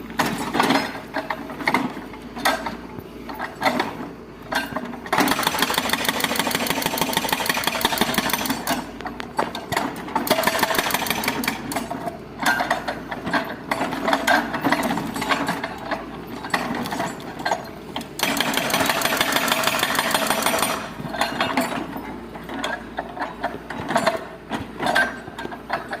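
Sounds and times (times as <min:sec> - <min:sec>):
excavator metallic rattling and clanking: 0:00.0 - 0:26.0.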